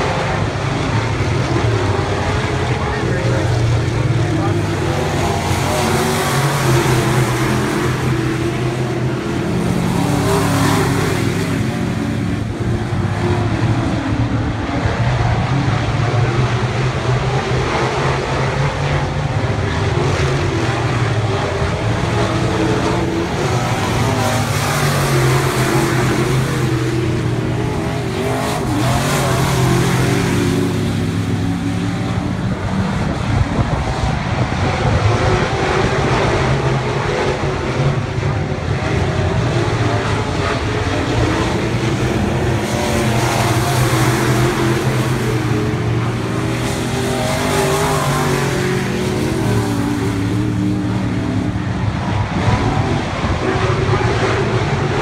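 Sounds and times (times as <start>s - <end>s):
race car engines droning: 0.0s - 55.0s.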